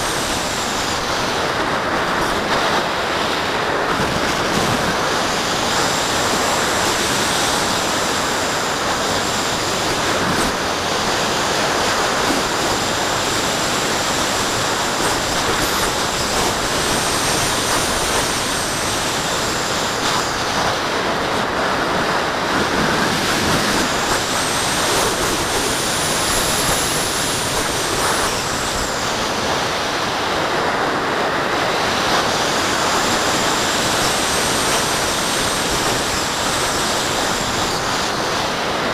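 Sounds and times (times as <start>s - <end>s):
airflow rushing over microphone: 0.0s - 38.9s
faint high whine: 0.0s - 38.9s.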